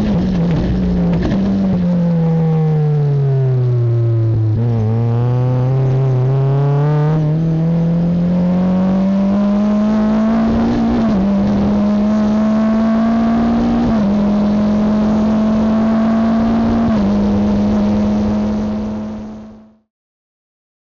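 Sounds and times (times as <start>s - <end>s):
race car engine at full throttle: 0.0s - 19.9s.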